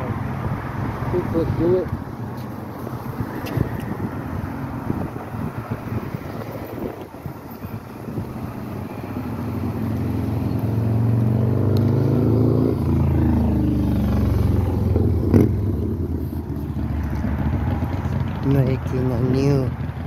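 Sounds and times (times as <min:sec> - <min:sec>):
vehicle driving past: 0:00.0 - 0:19.1.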